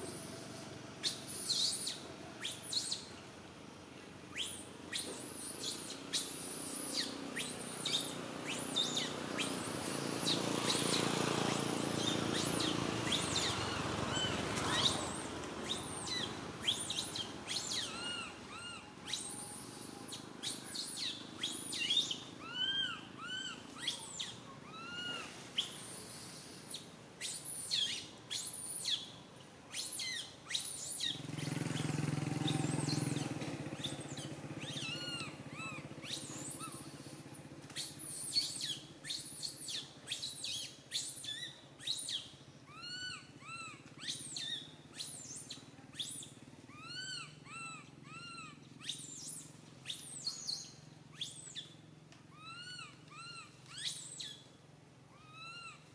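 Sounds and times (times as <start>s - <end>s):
infant monkey squealing: 0.2s - 3.1s, 4.4s - 29.1s, 29.7s - 31.2s, 32.4s - 51.7s, 52.3s - 54.4s, 55.1s - 55.9s.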